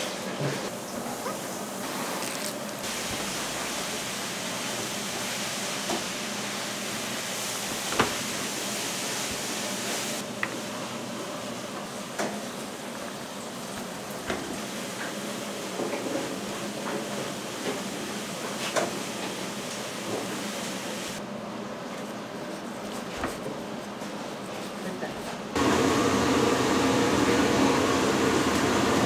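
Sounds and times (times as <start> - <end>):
steady kitchen hiss: 0.0 - 29.0.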